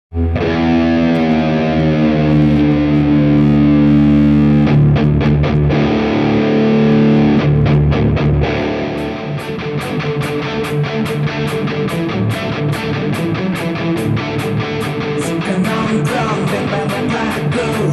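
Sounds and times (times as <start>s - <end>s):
distorted electric guitar: 0.1s - 17.9s.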